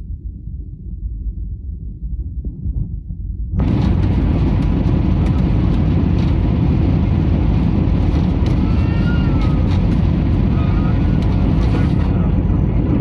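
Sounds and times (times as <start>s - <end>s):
airliner cabin roar: 1.6s - 13.0s.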